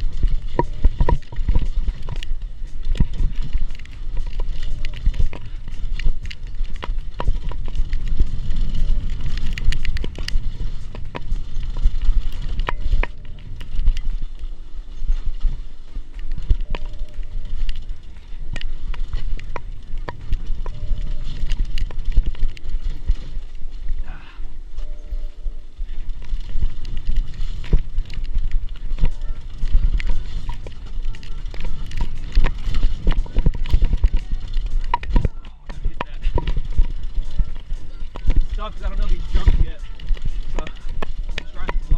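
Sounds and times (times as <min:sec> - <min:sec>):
bike rattling and knocking: 0:00.0 - 0:41.9
wind rumble on microphone: 0:00.0 - 0:41.9.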